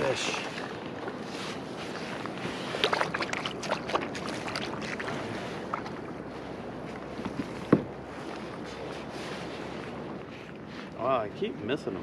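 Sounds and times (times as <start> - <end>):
wind and water hiss: 0.0 - 12.0.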